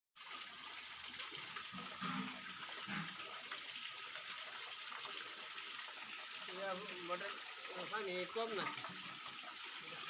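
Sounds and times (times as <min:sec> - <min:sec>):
water rushing and splashing: 0:00.2 - 0:10.0.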